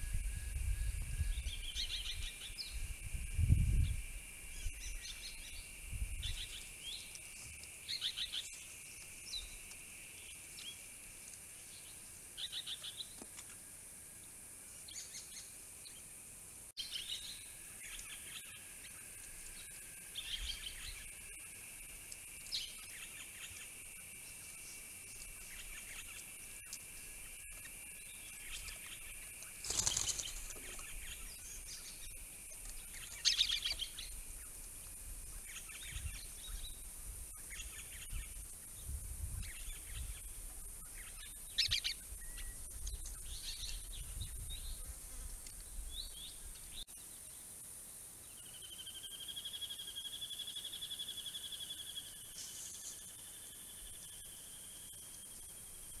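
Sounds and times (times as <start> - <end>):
bird calls and chirps: 0.0 - 10.9, 11.6 - 13.6, 14.8 - 16.1, 16.8 - 47.4, 48.2 - 56.0
steady high hiss: 0.0 - 56.0.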